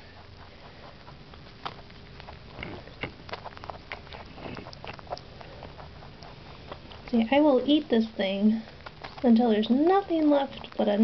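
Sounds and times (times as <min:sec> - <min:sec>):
rabbit chewing: 0:00.0 - 0:11.0.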